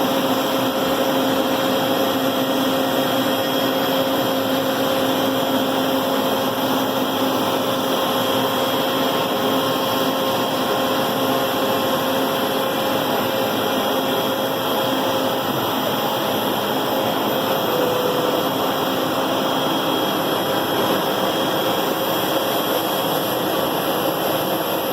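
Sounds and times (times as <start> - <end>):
cnc router spindle whine: 0.0 - 24.9
continuous rushing noise: 0.0 - 24.9.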